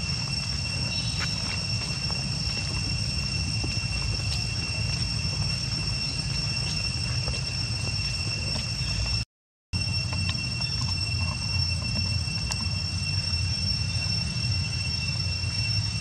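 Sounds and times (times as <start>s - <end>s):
constant low rumble: 0.0s - 9.2s, 9.8s - 16.0s
high-pitched insect drone: 0.0s - 9.2s, 9.8s - 16.0s.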